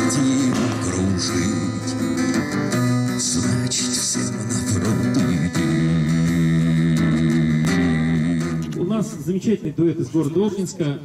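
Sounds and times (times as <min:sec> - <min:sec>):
man singing: 0:00.0 - 0:09.3
acoustic guitar strumming: 0:00.0 - 0:10.8.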